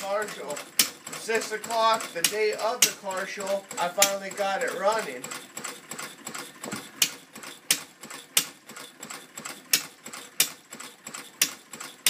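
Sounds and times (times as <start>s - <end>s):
single-cylinder engine puttering: 0.0s - 12.0s.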